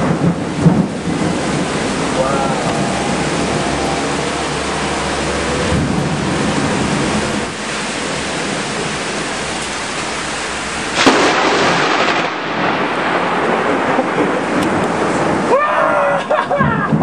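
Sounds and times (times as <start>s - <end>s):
thunder crash: 0.0s - 9.0s, 10.9s - 15.6s
heavy rain pouring: 0.0s - 17.0s.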